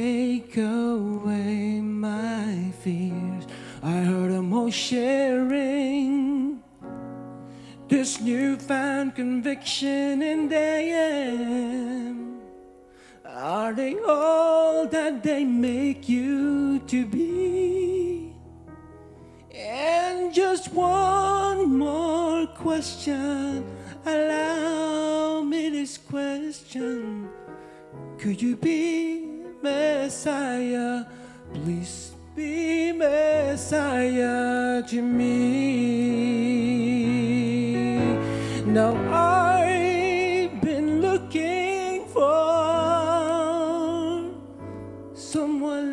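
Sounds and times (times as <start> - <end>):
person singing with vibrato: 0.0 - 18.5, 19.5 - 27.5, 28.2 - 45.9
piano chords: 0.0 - 45.9.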